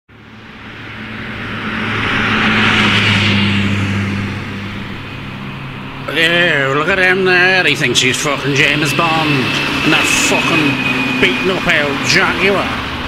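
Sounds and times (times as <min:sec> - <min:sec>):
car driving past: 0:00.2 - 0:13.0
steady low hum: 0:00.2 - 0:13.0.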